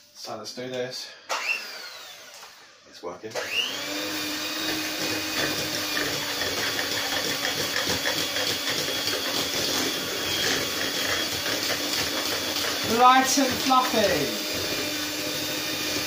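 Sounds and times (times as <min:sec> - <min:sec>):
electric hand mixer whirring: 0:01.3 - 0:16.0.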